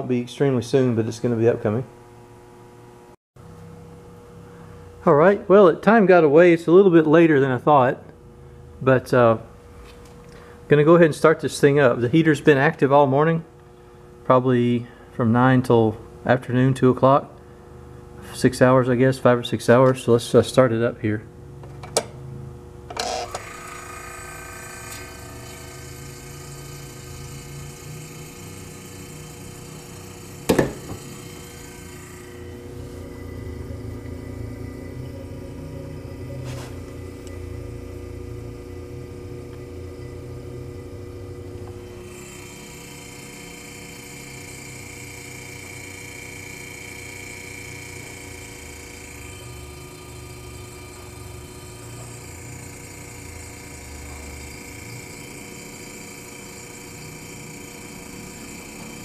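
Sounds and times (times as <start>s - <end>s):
refrigerator compressor humming: 0.0s - 59.0s.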